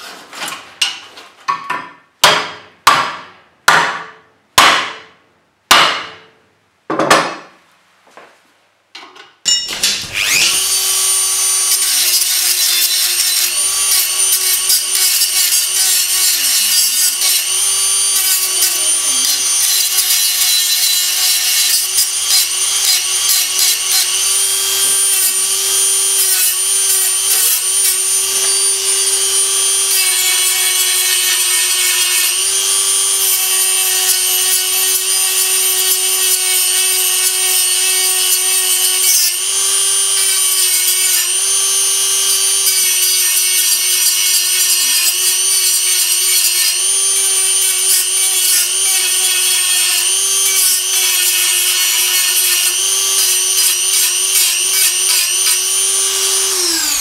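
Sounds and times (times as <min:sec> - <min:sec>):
rotary tool grinding steel: 0:09.6 - 0:57.0.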